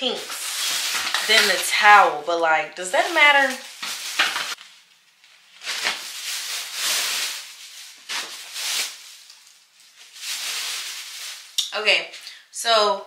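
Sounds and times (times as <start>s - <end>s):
plastic bag rustling: 0.0s - 2.2s, 2.8s - 11.6s.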